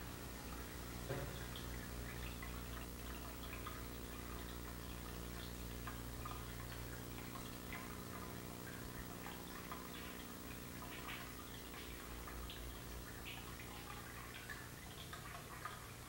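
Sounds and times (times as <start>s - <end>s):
low steady hum: 0.0s - 16.0s
water dripping: 0.0s - 16.0s.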